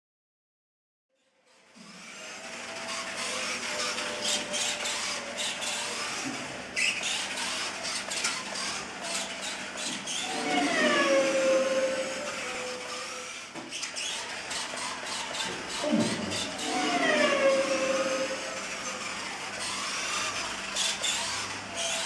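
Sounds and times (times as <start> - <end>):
toy car electric motor whining: 1.4 - 22.0.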